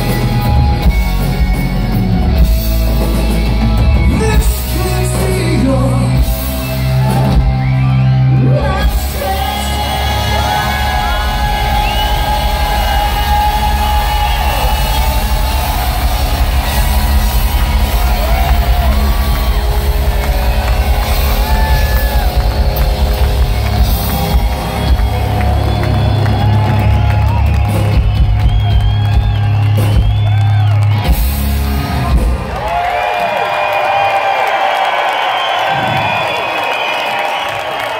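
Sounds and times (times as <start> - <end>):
live rock band playing: 0.0 - 33.0
crowd whooping and cheering: 0.0 - 37.9.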